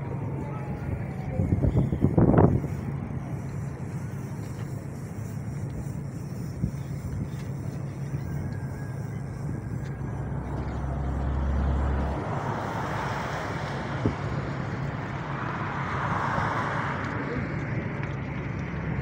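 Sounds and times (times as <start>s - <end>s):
city road traffic hum: 0.0s - 19.0s
deep rumble: 0.0s - 19.0s.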